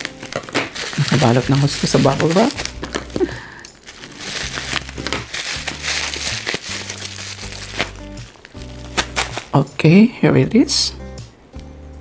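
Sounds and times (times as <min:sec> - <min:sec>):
bubble wrap crinkling: 0:00.0 - 0:09.7
soft background music: 0:00.0 - 0:12.0.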